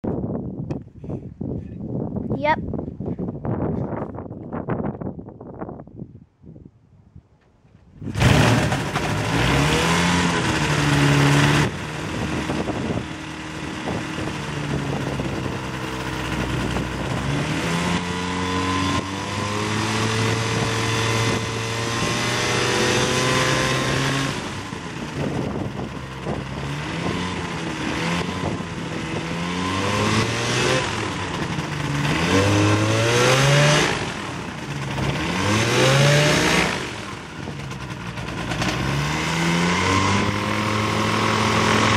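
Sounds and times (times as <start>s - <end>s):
aircraft engine revving: 8.0s - 41.9s.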